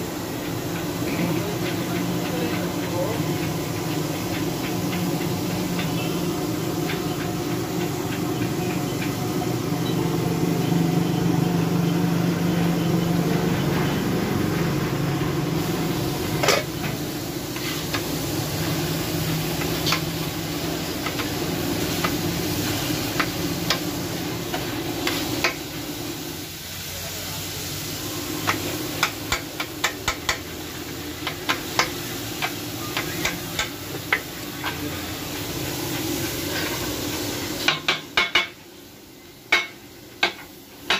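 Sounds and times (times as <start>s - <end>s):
food sizzling on a griddle: 0.0s - 40.9s.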